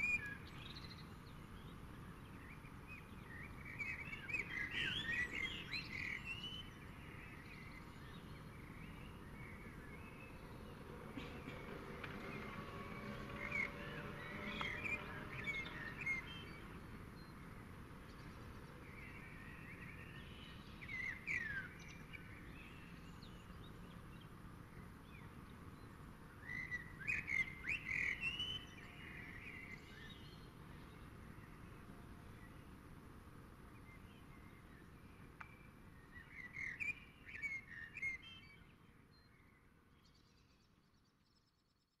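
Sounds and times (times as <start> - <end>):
birds singing: 0.0 - 32.9, 33.7 - 42.0.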